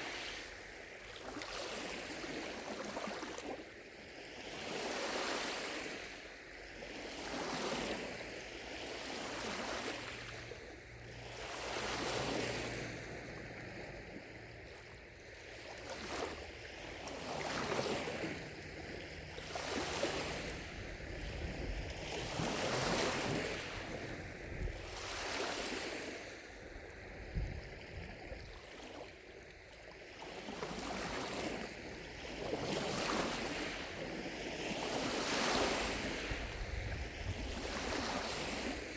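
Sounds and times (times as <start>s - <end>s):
lake waves lapping on shore: 0.0s - 38.9s.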